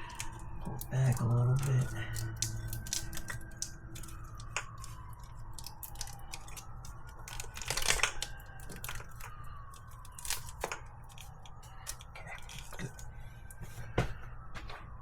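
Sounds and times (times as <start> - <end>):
small clicks and rustles: 0.0 - 15.0.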